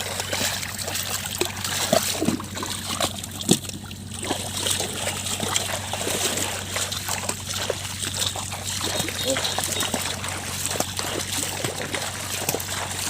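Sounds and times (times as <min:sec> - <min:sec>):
shallow water trickling and splashing: 0:00.0 - 0:13.0.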